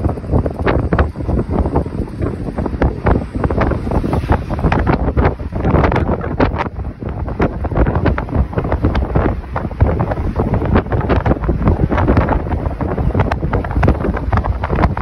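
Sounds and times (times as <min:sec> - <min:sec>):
deep rumble of vehicle travel: 0:00.0 - 0:15.0
wind buffeting microphone: 0:00.0 - 0:15.0.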